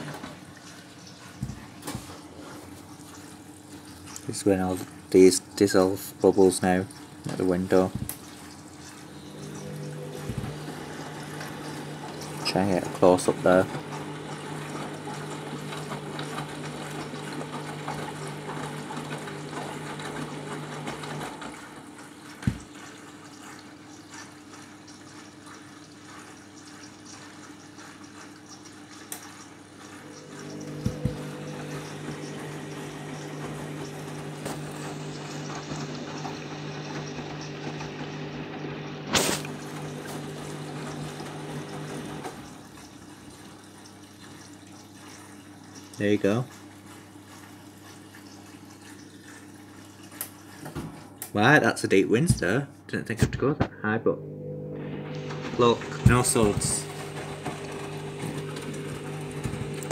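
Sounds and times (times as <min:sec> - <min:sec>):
water rushing into drum: 0:00.0 - 0:52.7, 0:54.8 - 0:59.9.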